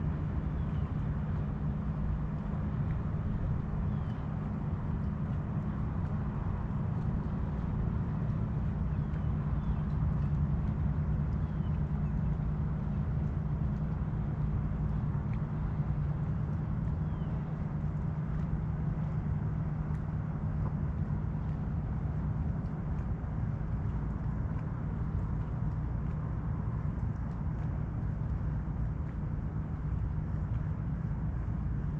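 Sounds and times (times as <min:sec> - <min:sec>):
boat motor droning: 0:00.0 - 0:31.9.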